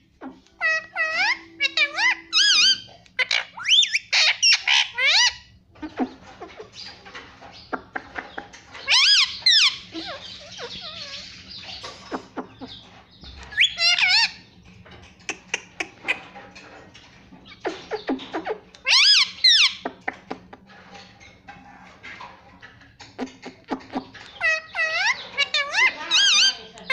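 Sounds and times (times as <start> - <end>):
parakeet calling: 0.0 - 20.4, 23.1 - 26.9.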